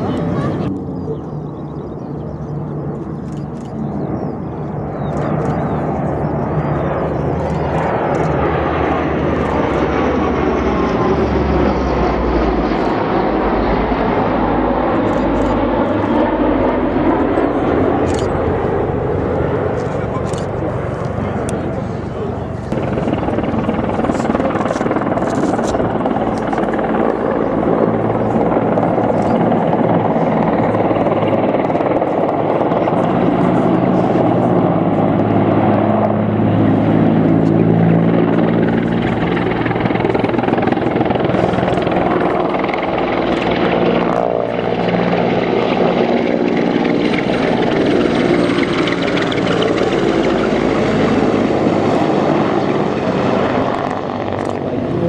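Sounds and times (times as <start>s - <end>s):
turboprop aircraft drone: 0.0s - 55.0s.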